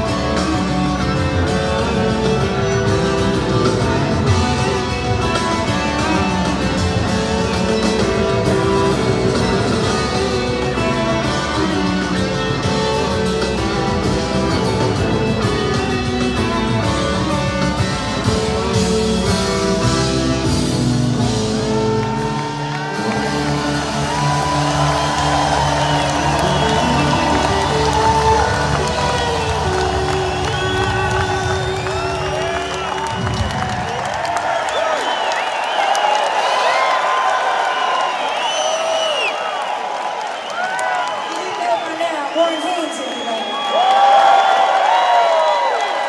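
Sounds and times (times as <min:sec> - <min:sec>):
electric guitars: 0:00.0 - 0:38.4
drum kit: 0:00.0 - 0:39.0.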